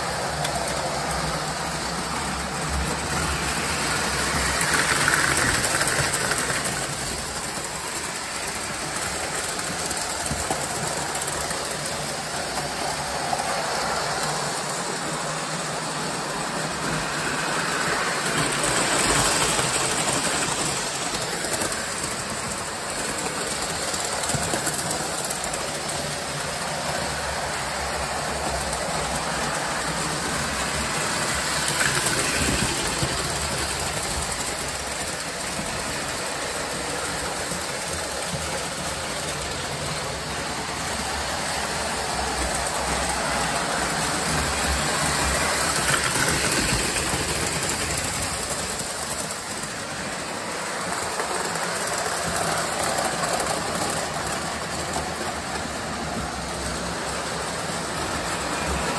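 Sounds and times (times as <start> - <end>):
model trains whirring on track: 0.0 - 58.9.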